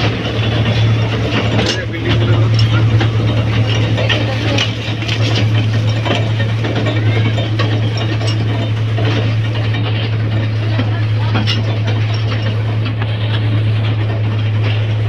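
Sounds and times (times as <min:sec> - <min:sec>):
carriages rattling and clicking: 0:00.0 - 0:15.0.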